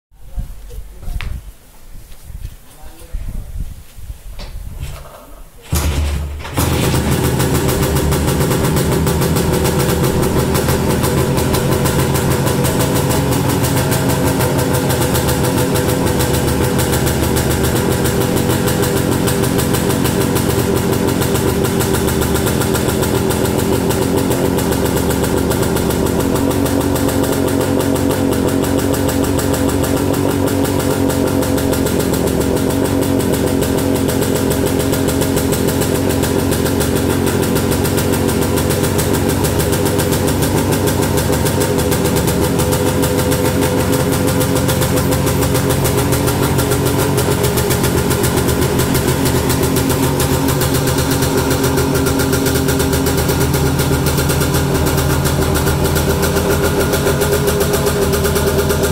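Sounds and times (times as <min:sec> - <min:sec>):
two-stroke motorcycle engine idling: 0:05.7 - 0:58.9.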